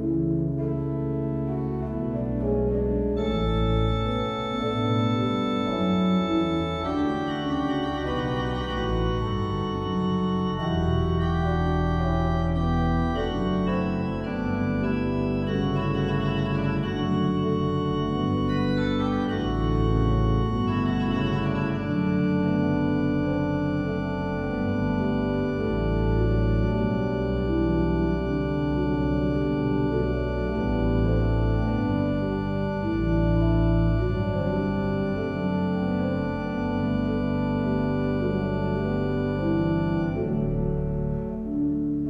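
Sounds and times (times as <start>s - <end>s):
pipe organ playing: 0.0s - 42.0s.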